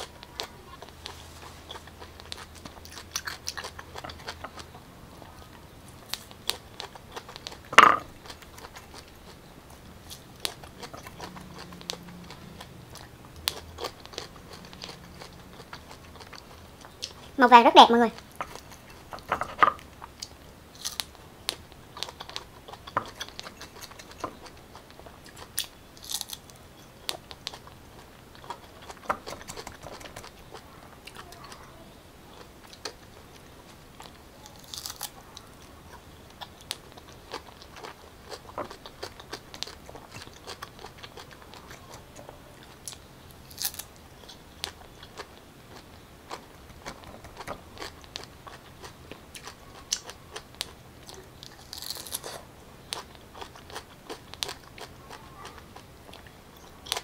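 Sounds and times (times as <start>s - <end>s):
chewing crunchy fruit: 0.0s - 57.0s.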